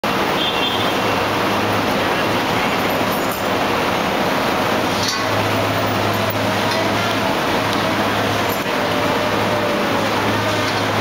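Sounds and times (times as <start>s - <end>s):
low machinery hum: 0.1s - 11.0s.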